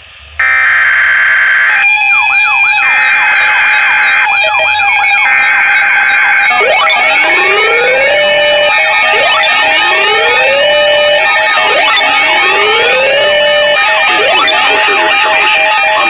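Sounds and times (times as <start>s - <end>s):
steady alarm tone: 0.4s - 16.0s
warbling siren sweeps: 0.4s - 16.0s.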